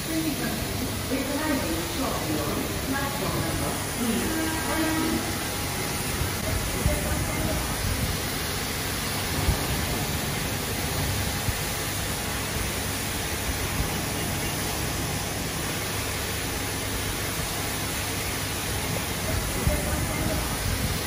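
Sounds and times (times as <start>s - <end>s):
pressure washer spraying concrete: 0.0s - 21.0s.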